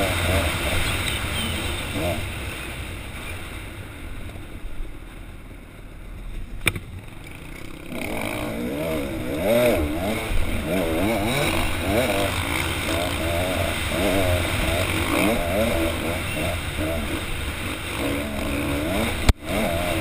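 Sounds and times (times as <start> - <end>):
dirt bike engine revving: 0.0 - 2.9, 6.6 - 20.0.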